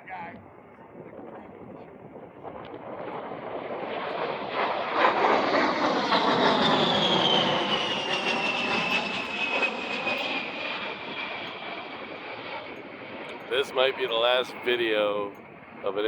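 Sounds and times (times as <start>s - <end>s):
jet engines whining in flyby: 0.4s - 16.0s.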